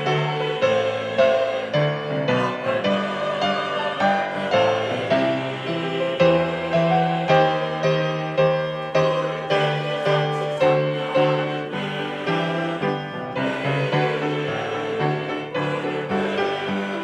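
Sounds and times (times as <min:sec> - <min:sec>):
choir singing a hymn: 0:00.0 - 0:17.0
piano accompaniment: 0:00.0 - 0:17.0.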